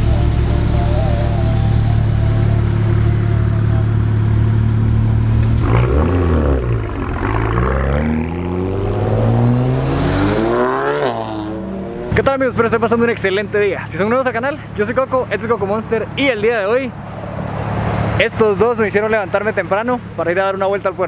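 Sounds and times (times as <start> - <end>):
car engine revving: 0.0 - 13.6, 16.9 - 20.2.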